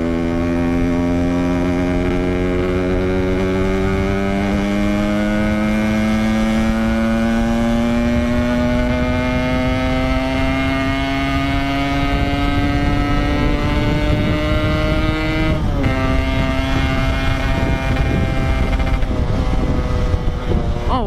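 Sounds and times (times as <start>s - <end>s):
two-stroke motorcycle engine running: 0.0s - 21.0s.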